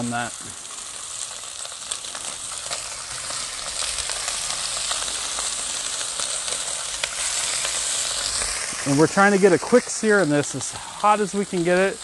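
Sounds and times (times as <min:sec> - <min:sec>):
steaks sizzling on griddle: 0:00.0 - 0:12.0.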